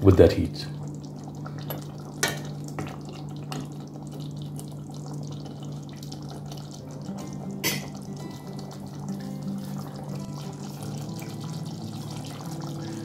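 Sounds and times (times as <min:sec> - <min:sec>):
curry bubbling in a pot: 0:00.1 - 0:13.0.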